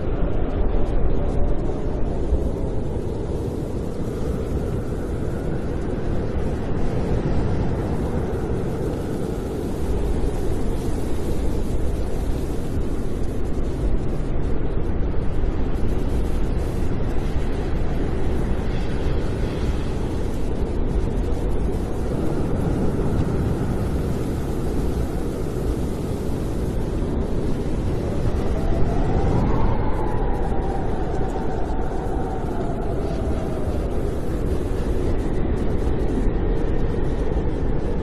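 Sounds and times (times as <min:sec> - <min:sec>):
snowstorm wind rushing: 0:00.0 - 0:38.0.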